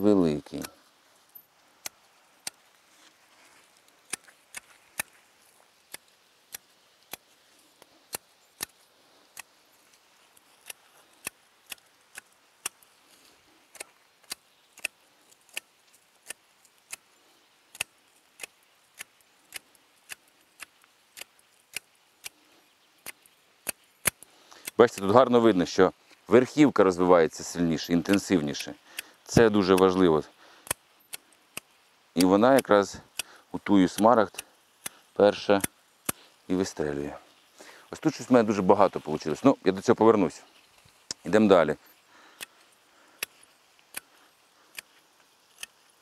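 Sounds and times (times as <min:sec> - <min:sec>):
garden shears snipping: 0:00.0 - 0:46.0.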